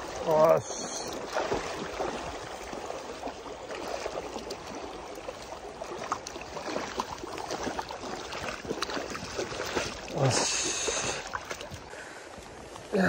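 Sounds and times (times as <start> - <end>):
river water running over stones: 0.0 - 13.0.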